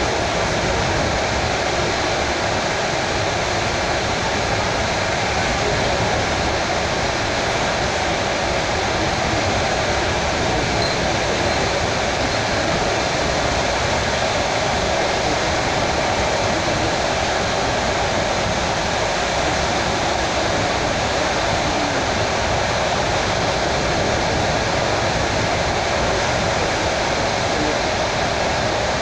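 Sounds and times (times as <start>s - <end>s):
train running noise inside carriage: 0.0s - 29.0s.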